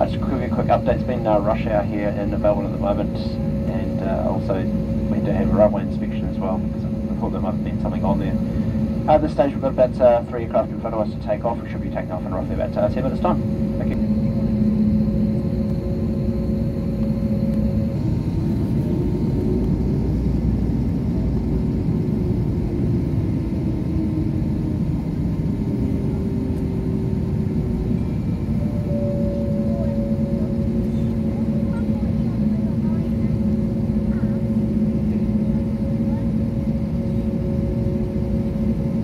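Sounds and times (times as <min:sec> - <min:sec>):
jet cabin engine rumble: 0:00.0 - 0:39.0
steady hums shifting in pitch: 0:00.0 - 0:39.0.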